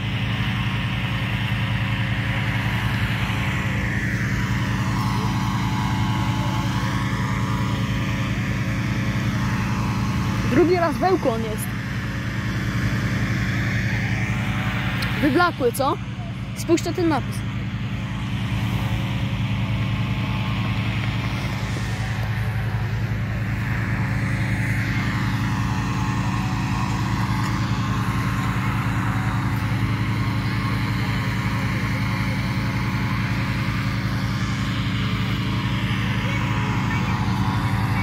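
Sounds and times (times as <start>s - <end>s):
engine droning steadily: 0.0s - 38.0s.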